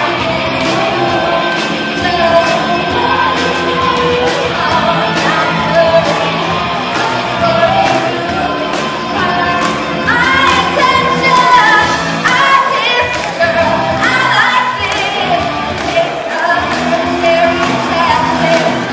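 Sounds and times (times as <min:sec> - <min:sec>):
woman singing: 0:00.0 - 0:18.9.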